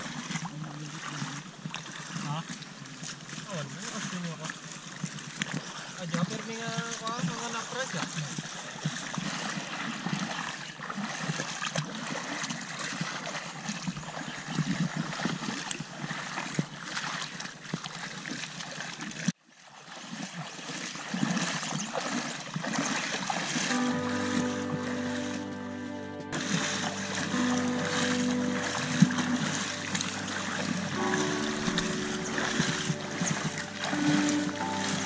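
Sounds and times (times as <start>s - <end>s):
creek water trickling: 0.0s - 35.0s
footsteps splashing through creek: 0.0s - 35.0s.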